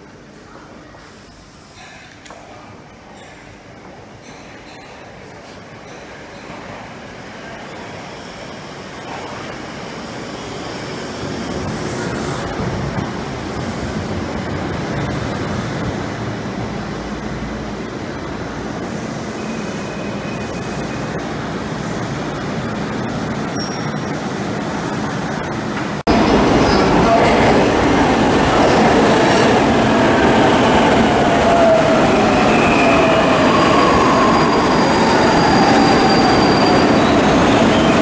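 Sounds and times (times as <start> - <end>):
subway train rumble: 0.0 - 38.0.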